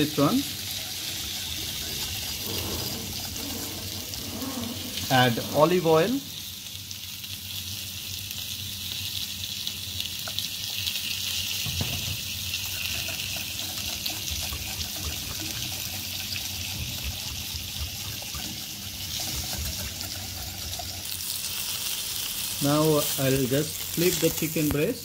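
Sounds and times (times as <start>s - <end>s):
chicken sizzling on grill pan: 0.0s - 25.0s.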